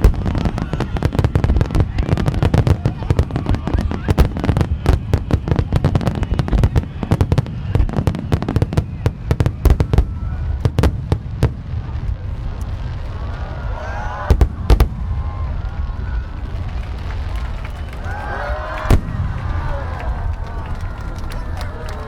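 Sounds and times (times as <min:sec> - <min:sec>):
fireworks crackling and banging: 0:00.0 - 0:22.0
heavy fireworks booms: 0:00.0 - 0:22.0.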